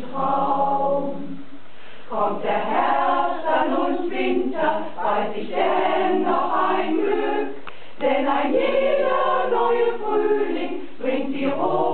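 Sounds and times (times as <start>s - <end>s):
women's choir singing: 0.0s - 1.5s, 2.1s - 11.9s.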